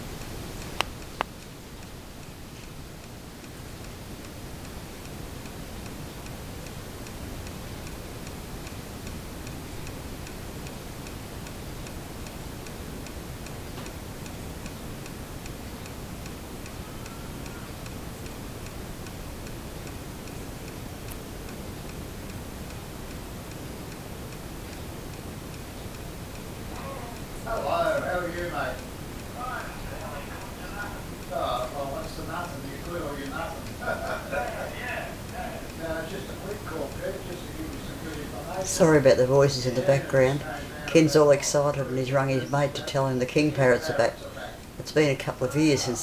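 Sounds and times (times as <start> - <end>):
low background noise: 0.0 - 46.0
steady ticking: 0.0 - 46.0.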